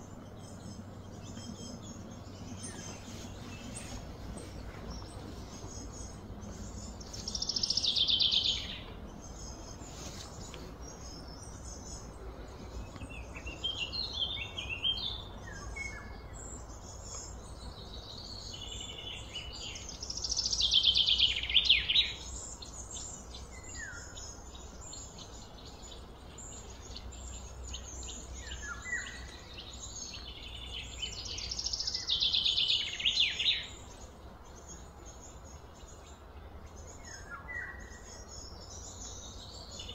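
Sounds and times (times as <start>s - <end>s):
bird chirps: 0.0s - 39.9s
low background hum: 0.0s - 39.9s.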